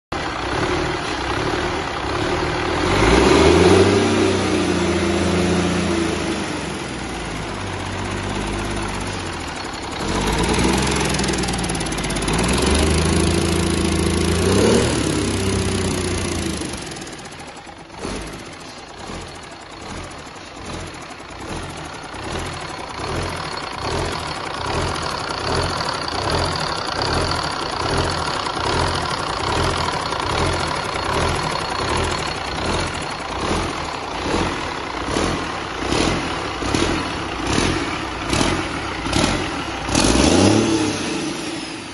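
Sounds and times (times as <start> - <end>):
diesel engine revving and idling: 0.1 - 41.9.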